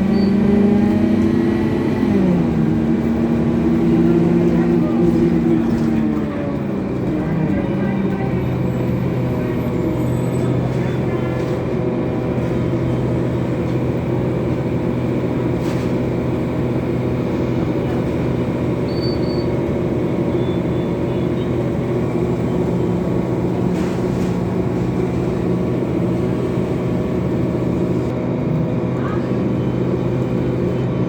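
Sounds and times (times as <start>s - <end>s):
coach engine running: 0.0s - 31.0s
road noise: 0.0s - 31.0s.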